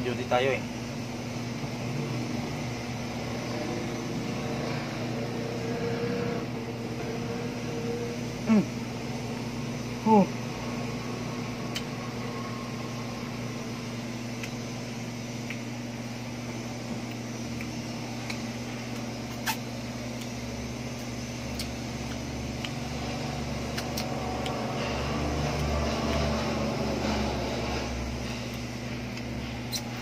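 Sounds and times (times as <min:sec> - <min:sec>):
mechanical hum: 0:00.0 - 0:30.0.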